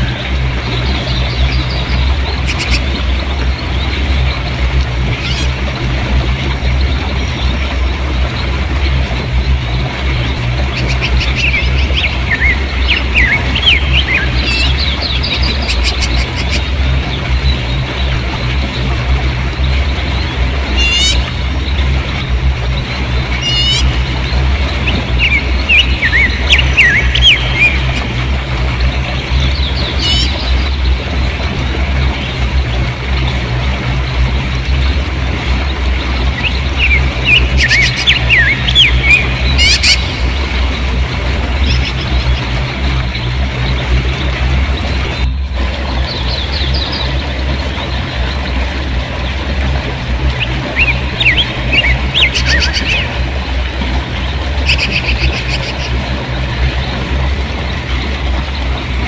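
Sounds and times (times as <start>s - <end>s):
small birds chirping: 0.0s - 45.3s, 45.9s - 59.0s.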